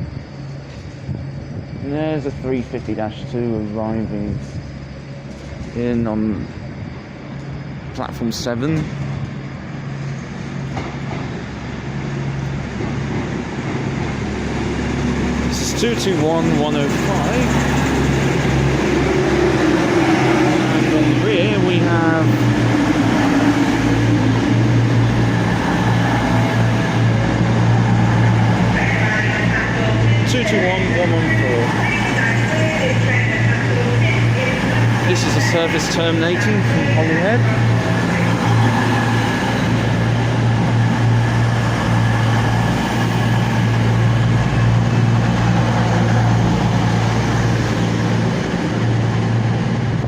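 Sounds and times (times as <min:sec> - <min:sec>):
train diesel engines humming: 0:00.0 - 0:50.0.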